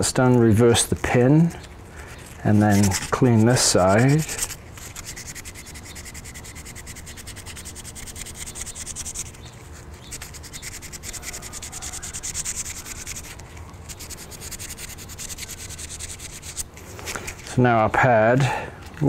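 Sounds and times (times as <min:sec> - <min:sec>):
sandpaper scratching on metal pin: 0:02.2 - 0:17.6.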